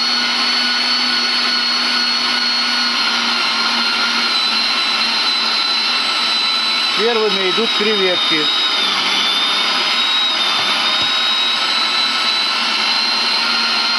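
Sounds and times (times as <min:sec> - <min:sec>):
meat grinder motor whining: 0:00.0 - 0:13.9.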